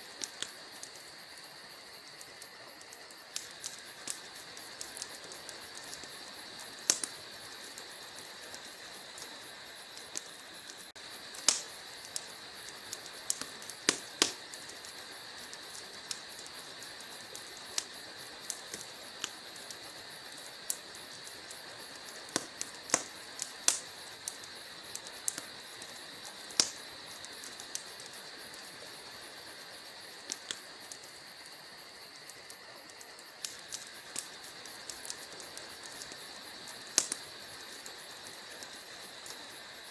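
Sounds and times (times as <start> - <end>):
fire crackling and popping: 0.0 - 39.9
fire hissing: 0.0 - 39.9.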